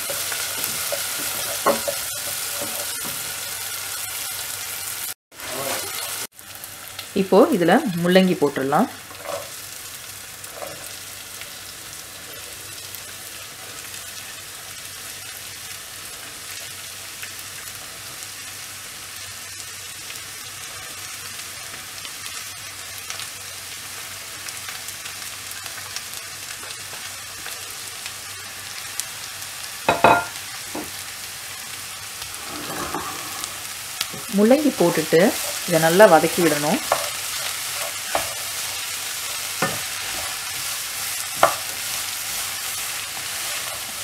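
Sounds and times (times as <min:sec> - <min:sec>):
hot oil sizzling in a saucepan: 0:00.0 - 0:44.0.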